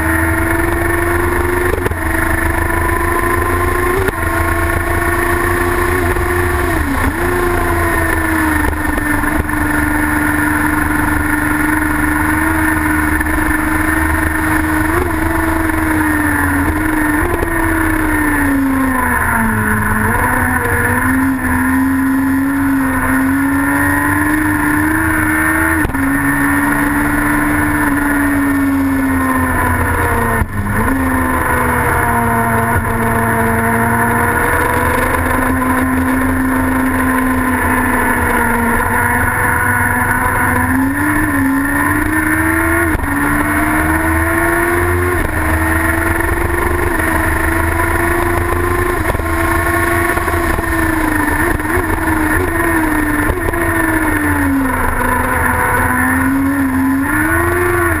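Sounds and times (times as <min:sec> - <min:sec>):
racing engine at high revs: 0:00.0 - 0:58.0.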